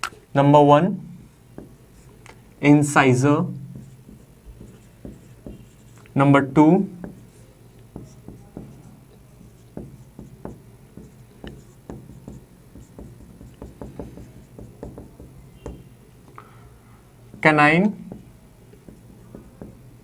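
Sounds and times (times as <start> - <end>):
marker writing on whiteboard: 0.8 - 16.6, 17.2 - 20.0.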